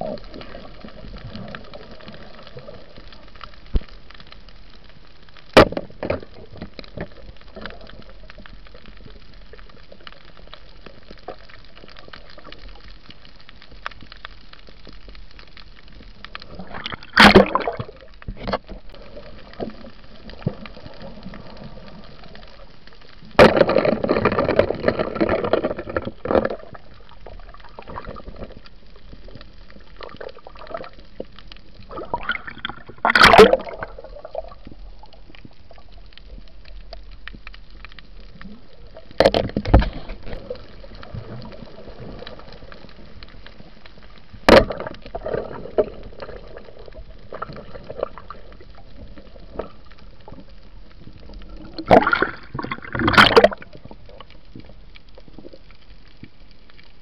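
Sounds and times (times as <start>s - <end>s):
water gurgling and splashing: 0.0s - 4.2s, 5.6s - 13.8s, 15.4s - 56.6s
steady low hiss: 0.0s - 57.0s.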